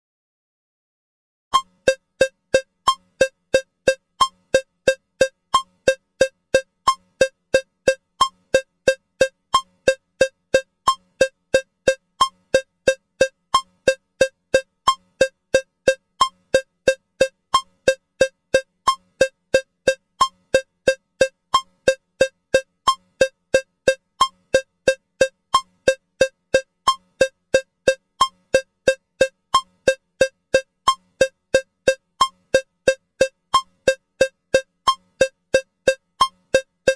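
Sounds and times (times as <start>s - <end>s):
metronome cowbell clicking: 1.6s - 36.9s.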